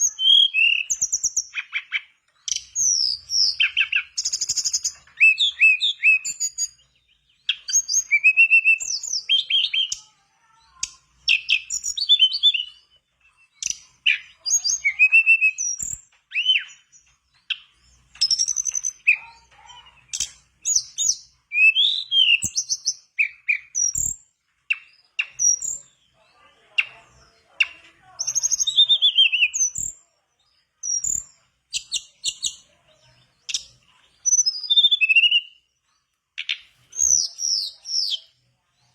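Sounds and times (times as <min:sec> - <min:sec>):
bird singing high chirping phrases: 0:00.0 - 0:38.9.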